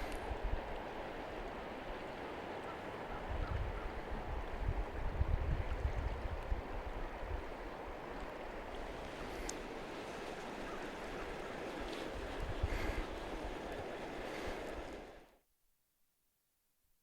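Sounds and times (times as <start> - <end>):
river flowing: 0.0 - 15.4.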